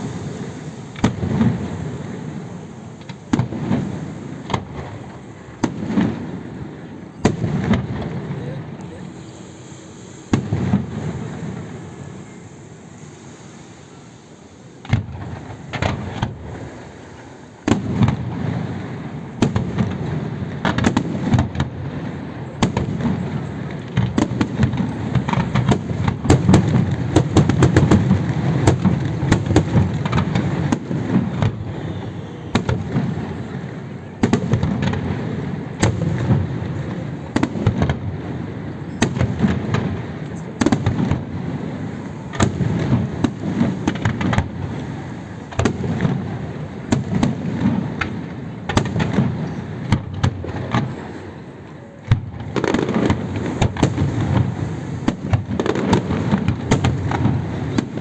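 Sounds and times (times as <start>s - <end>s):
fireworks shells bursting: 0.0s - 58.0s
low rumble of fireworks: 0.0s - 58.0s.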